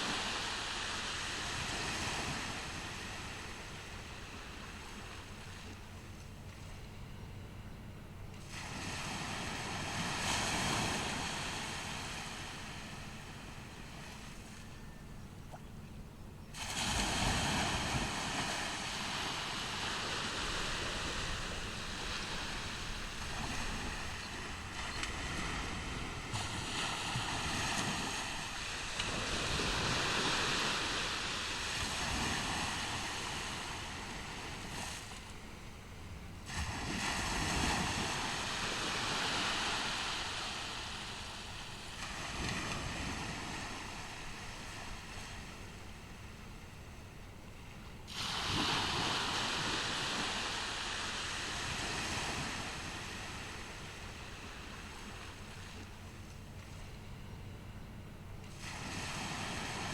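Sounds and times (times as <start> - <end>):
waves breaking on shore: 0.0 - 7.5, 8.1 - 59.9
wind rumbling on microphone: 8.1 - 57.2.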